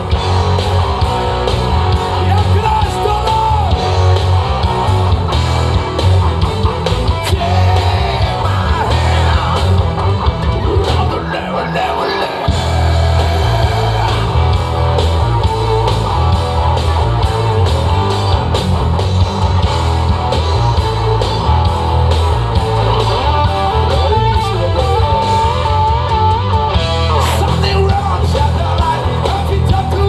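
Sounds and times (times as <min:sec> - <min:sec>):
steady drum beat: 0:00.0 - 0:11.3, 0:12.5 - 0:30.0
electric guitar: 0:00.0 - 0:30.0
heavy bass: 0:00.0 - 0:30.0.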